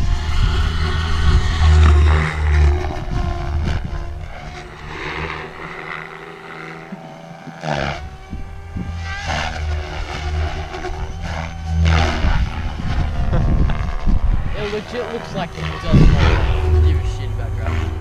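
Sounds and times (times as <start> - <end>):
model helicopter rotor whine: 0.0 - 18.0.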